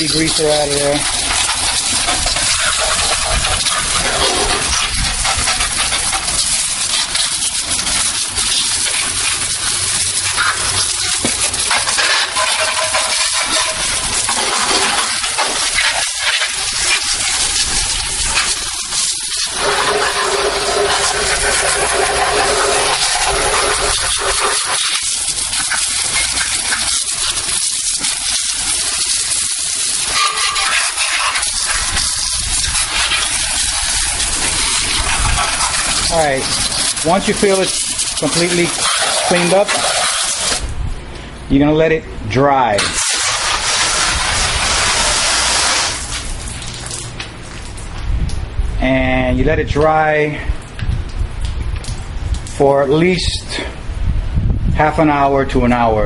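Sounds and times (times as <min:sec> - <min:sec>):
hose water spraying on engine: 0:00.0 - 0:42.0, 0:42.7 - 0:55.3.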